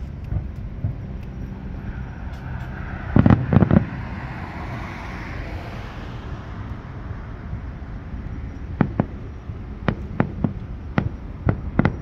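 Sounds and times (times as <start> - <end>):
low rumble of road traffic: 0.0 - 12.0
distant fireworks booming: 0.2 - 5.8, 7.0 - 12.0.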